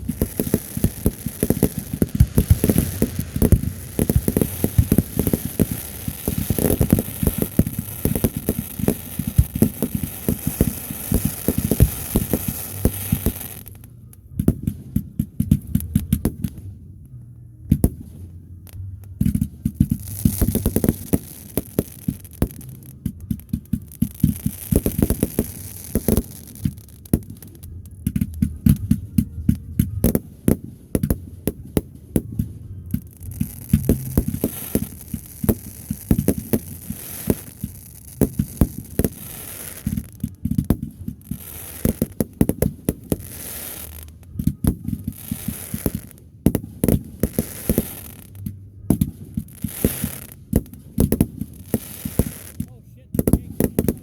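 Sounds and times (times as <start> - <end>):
fireworks booms and pops: 0.0 - 16.9, 17.7 - 54.0.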